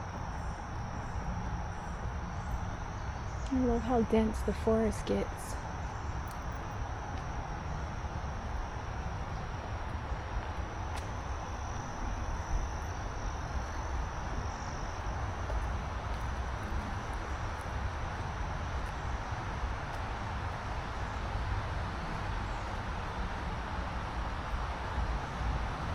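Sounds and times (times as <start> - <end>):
continuous low rumble: 0.0 - 25.9
insects droning: 0.0 - 25.9.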